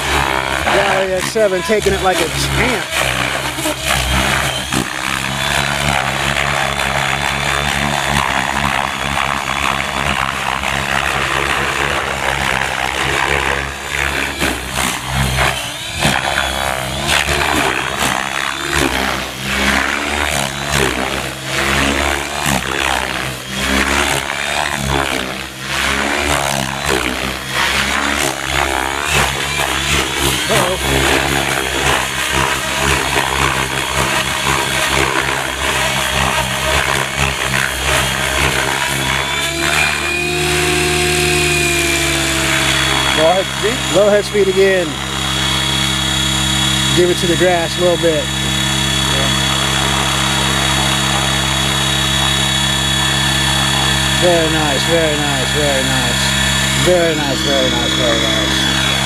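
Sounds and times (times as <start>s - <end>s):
helicopter rotor whine: 0.0s - 59.0s.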